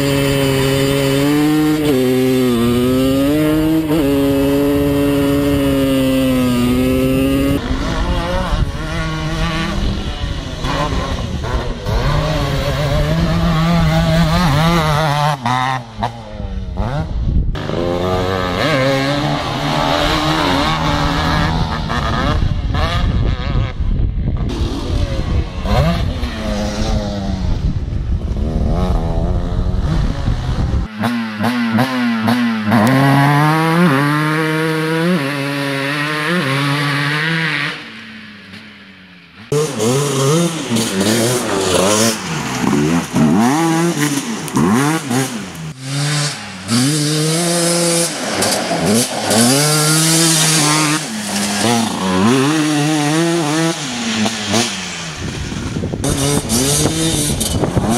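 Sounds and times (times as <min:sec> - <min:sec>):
quad engines revving: 0:00.0 - 0:38.8, 0:39.4 - 0:57.9.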